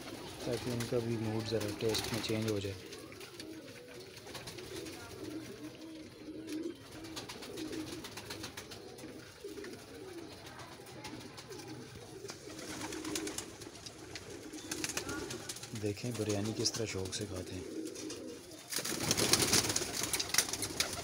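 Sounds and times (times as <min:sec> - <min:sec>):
pigeons cooing: 0:00.0 - 0:21.0
pigeons pecking on floor: 0:00.0 - 0:21.0.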